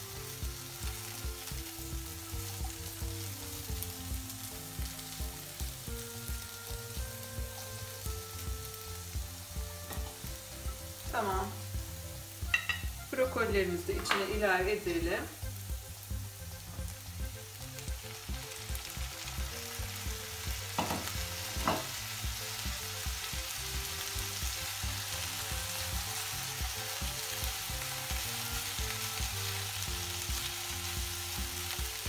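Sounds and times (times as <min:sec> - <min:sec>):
vegetables sizzling in a pan: 0:00.0 - 0:32.0.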